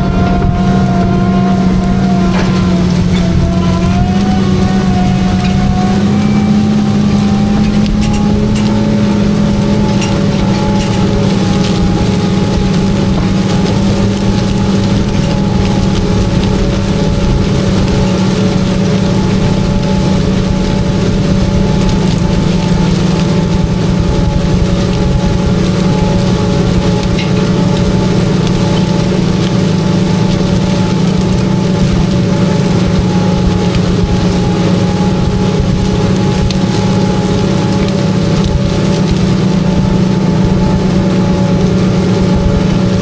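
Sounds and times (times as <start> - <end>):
constant rushing noise: 0.0 - 43.0
tractor engine droning: 0.0 - 43.0.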